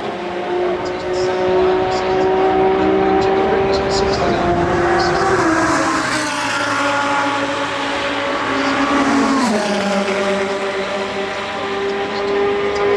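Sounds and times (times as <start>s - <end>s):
race car engine at high revs: 0.0s - 12.9s.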